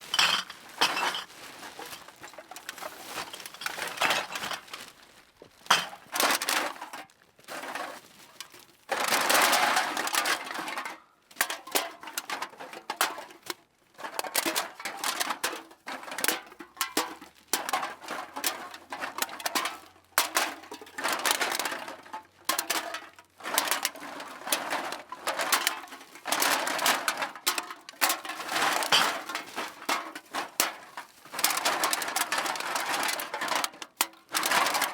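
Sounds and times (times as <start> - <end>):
cans clattering into a bag: 0.0 - 5.0, 5.6 - 34.9.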